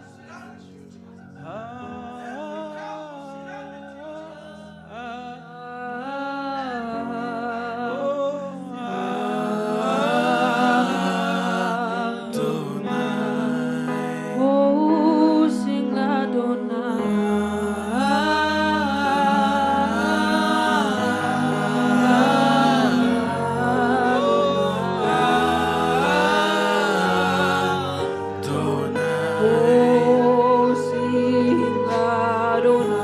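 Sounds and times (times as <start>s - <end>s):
held keyboard chords: 0.0s - 33.0s
person singing slow melody: 1.1s - 33.0s.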